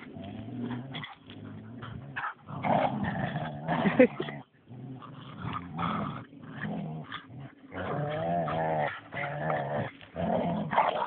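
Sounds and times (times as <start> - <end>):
dog growling: 0.0 - 11.0.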